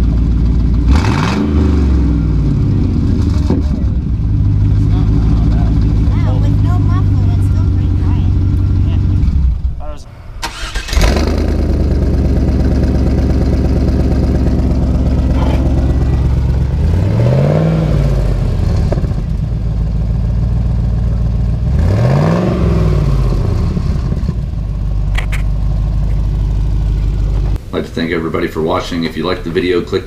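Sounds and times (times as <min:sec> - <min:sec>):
car engine idling: 0:00.0 - 0:30.0
car engine revving: 0:00.0 - 0:30.0
car engine starting: 0:00.0 - 0:30.0.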